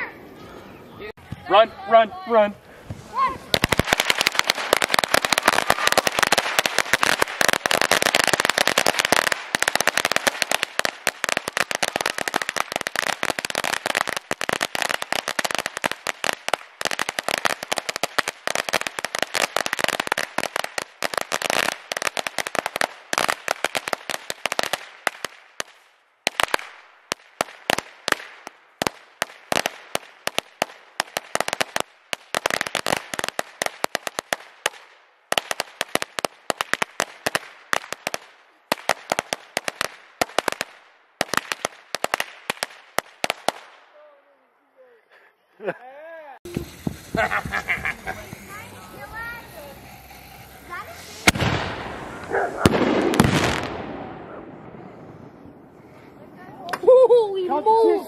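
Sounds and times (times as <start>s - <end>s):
firework crackling pops: 2.8s - 43.9s, 46.4s - 54.9s.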